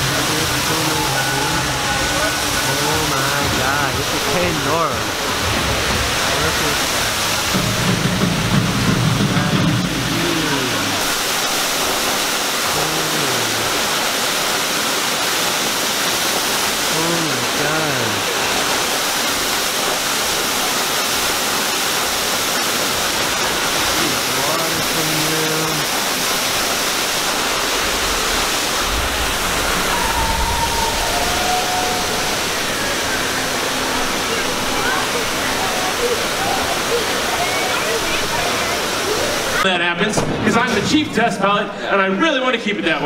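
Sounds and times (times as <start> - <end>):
waterfall pouring into pool: 0.0 - 43.0.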